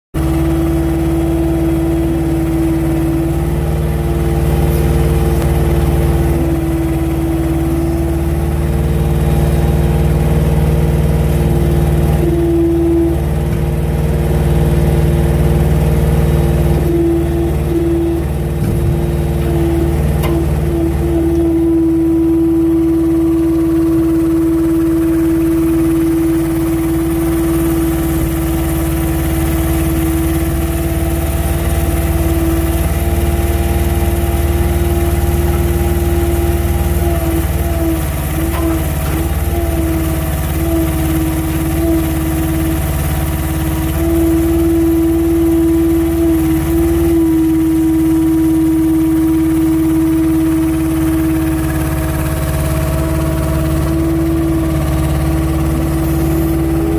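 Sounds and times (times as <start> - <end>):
hydraulic whine: 0.2 - 56.9
truck engine running: 0.2 - 56.9.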